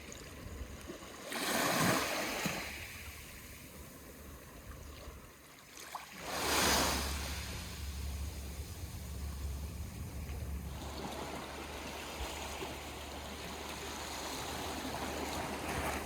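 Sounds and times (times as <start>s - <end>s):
sea waves washing in: 1.2s - 16.0s.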